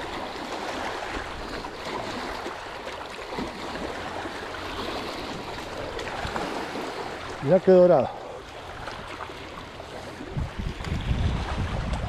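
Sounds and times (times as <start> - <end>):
waves lapping against rocks: 0.0 - 12.0.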